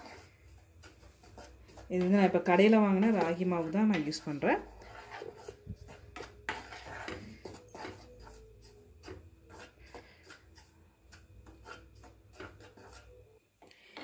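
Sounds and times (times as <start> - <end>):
wooden spatula scraping metal pan: 0.0 - 13.3.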